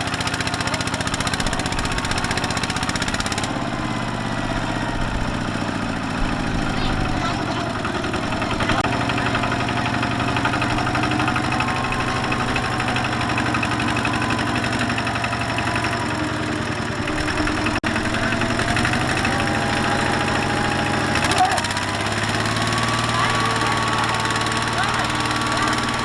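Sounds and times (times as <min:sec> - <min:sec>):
diesel engine knocking with whine: 0:00.0 - 0:26.0.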